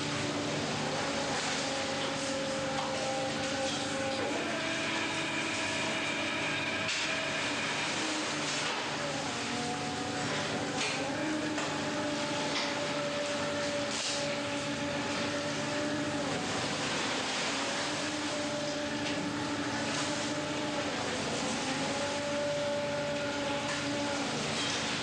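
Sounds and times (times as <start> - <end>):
boat engine droning: 0.0 - 25.0
machinery humming: 0.0 - 25.0.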